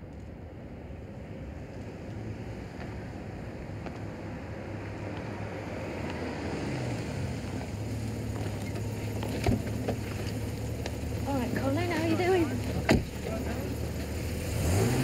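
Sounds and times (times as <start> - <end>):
car engine humming: 0.1 - 15.0.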